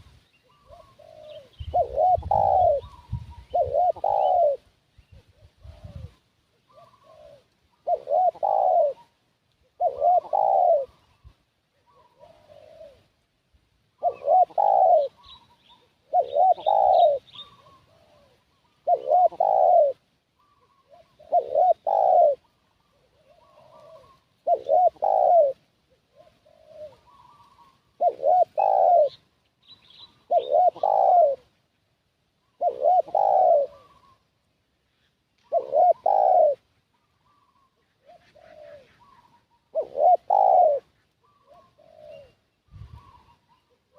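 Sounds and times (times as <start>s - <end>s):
small birds chirping: 0.0s - 13.2s, 13.9s - 43.9s
dove cooing: 0.0s - 13.3s, 13.9s - 31.6s, 32.4s - 34.5s, 35.4s - 43.9s.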